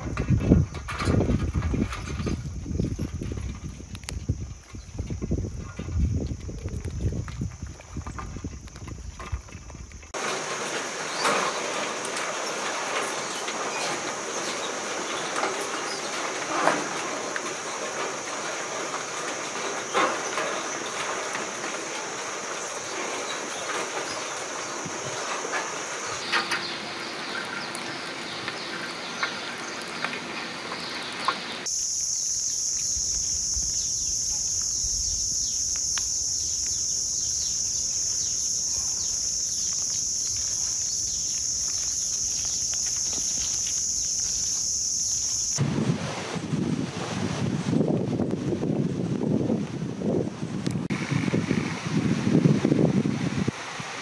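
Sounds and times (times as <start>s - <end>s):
low wind rumble: 0.0s - 29.3s, 31.8s - 54.0s
forest insects droning: 0.0s - 45.8s
crabs scuttling over gravel and leaves: 0.0s - 46.4s.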